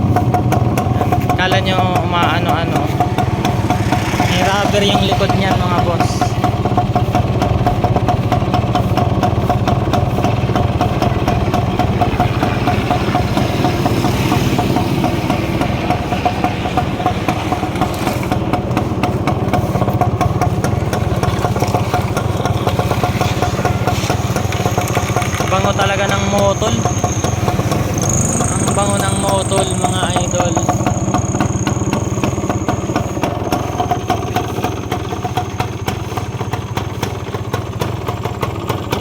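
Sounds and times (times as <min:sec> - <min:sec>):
two-stroke engine idling: 0:00.0 - 0:39.0.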